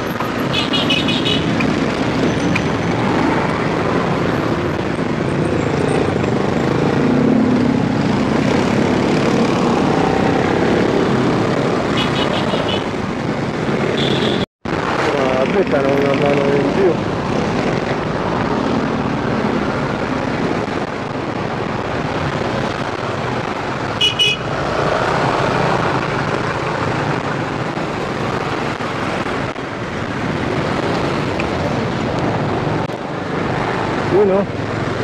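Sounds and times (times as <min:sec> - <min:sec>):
road and traffic noise: 0:00.0 - 0:35.0.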